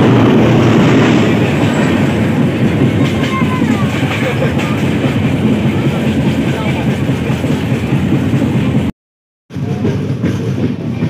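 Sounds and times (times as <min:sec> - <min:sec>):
train wheels rumbling on track: 0:00.0 - 0:08.9, 0:09.5 - 0:11.0.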